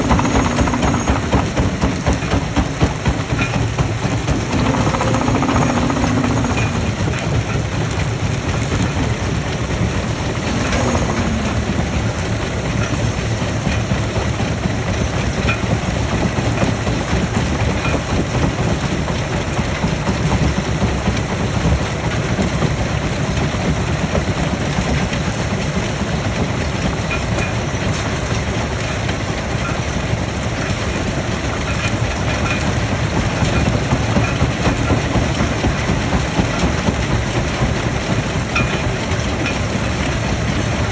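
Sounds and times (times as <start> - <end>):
stone crushing machine rumbling: 0.0 - 40.9.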